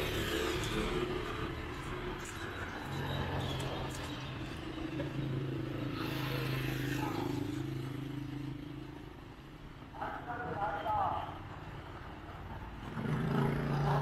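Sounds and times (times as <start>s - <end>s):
passing traffic: 0.0s - 14.0s.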